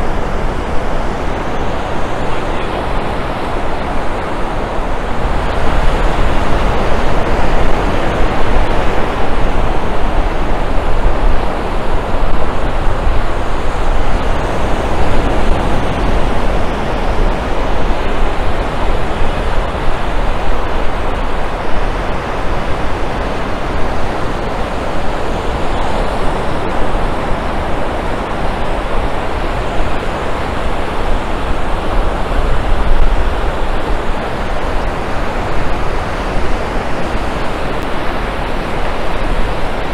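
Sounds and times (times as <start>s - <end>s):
ocean surf on sandy beach: 0.0s - 39.9s.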